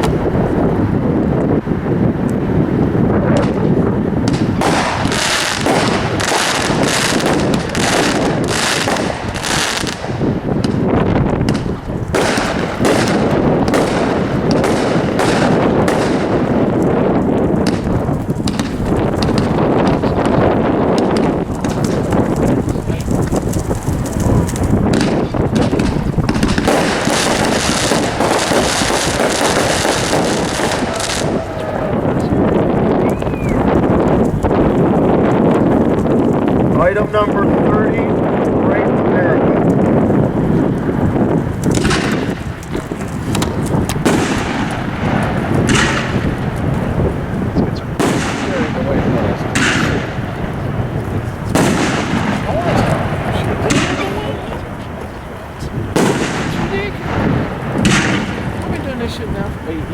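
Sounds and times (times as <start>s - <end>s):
fireworks shots and bursts: 0.0s - 59.9s.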